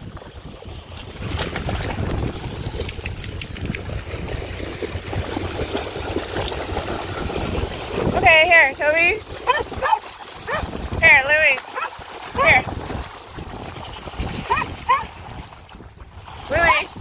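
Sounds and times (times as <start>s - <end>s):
dogs splashing through water: 0.0s - 17.0s
wind rumble on microphone: 0.0s - 17.0s.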